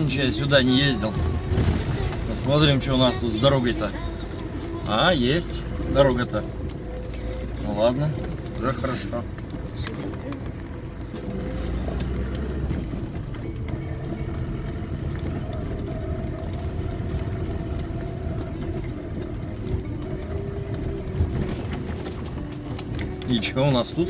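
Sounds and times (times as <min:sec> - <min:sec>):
car engine hum: 0:00.0 - 0:24.0
low road rumble: 0:00.0 - 0:24.0.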